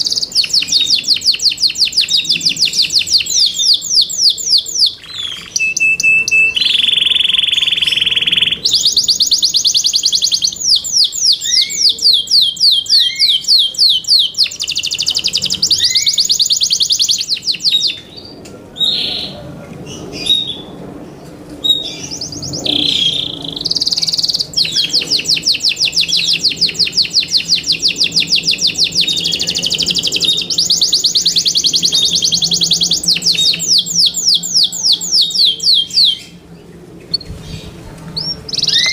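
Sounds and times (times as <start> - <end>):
canary singing trills: 0.0 - 20.8, 21.6 - 38.9.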